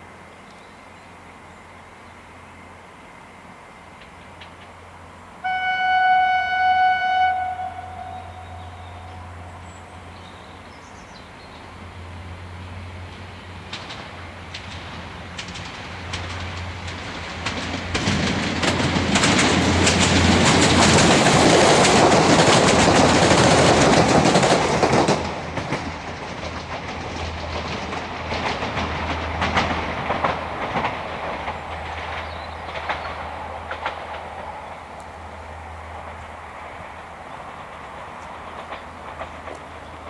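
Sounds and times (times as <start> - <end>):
passenger train passing: 0.0 - 40.0.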